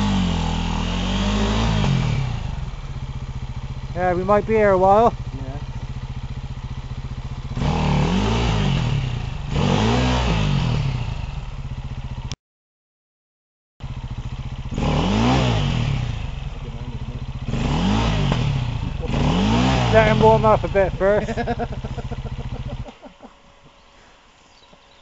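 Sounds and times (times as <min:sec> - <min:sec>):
dirt bike engine revving: 0:00.0 - 0:12.4, 0:13.8 - 0:23.2.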